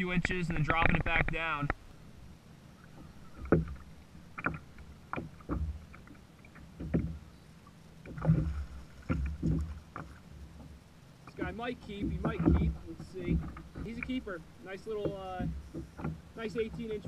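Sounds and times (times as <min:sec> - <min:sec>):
waves knocking against kayak hull: 0:00.0 - 0:02.0, 0:02.8 - 0:17.0
soft wash of open water: 0:00.0 - 0:17.0.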